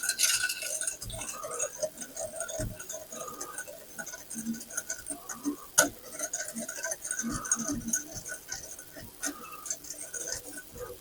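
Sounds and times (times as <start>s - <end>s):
whisk ticking against glass bowl: 0.0s - 11.0s.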